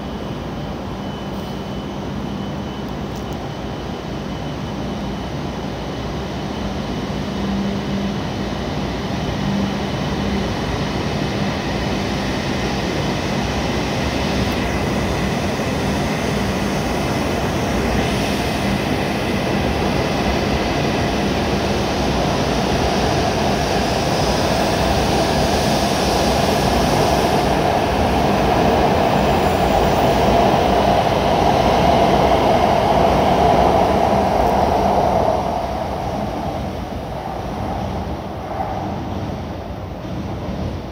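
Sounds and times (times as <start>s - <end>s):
high-speed train departing: 0.0s - 40.9s.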